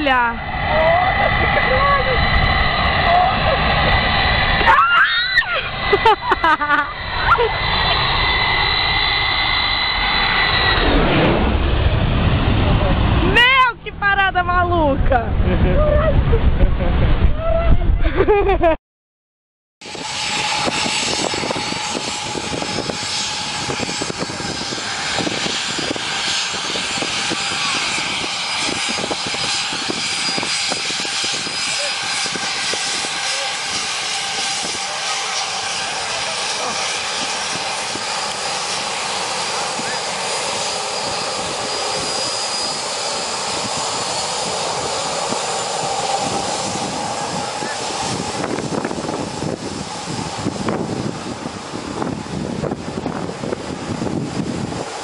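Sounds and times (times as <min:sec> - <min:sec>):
jet engines roaring and whining: 0:00.0 - 0:17.9, 0:19.8 - 0:55.0.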